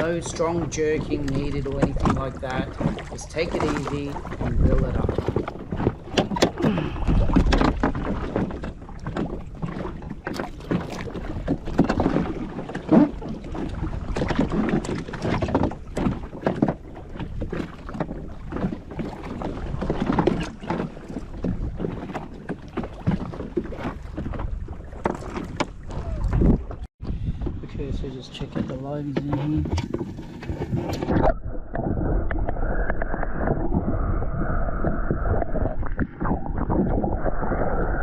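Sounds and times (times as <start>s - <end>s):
water splashing against a hull: 0.0s - 38.0s
wind gusts on microphone: 0.0s - 38.0s.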